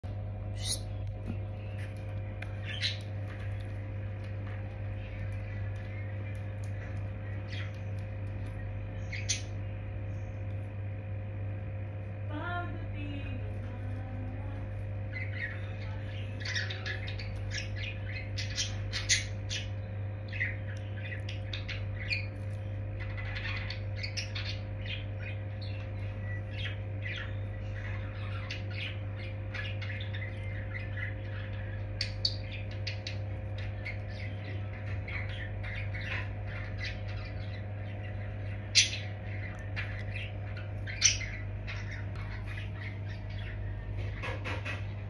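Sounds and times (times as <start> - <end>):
steady low hum: 0.0 - 45.0
budgerigars chirping and squawking: 0.4 - 11.9, 13.1 - 45.0.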